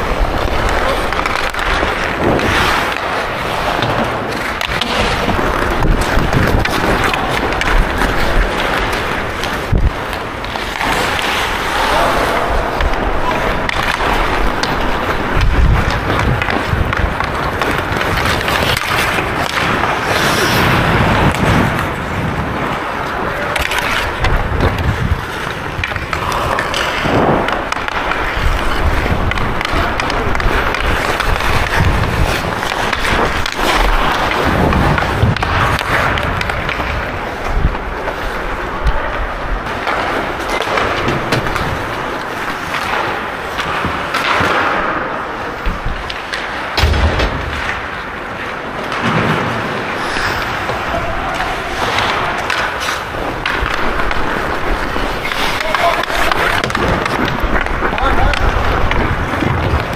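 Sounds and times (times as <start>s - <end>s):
hockey sticks and puck knocking: 0.0s - 59.9s
skate blades scraping ice: 0.0s - 59.9s.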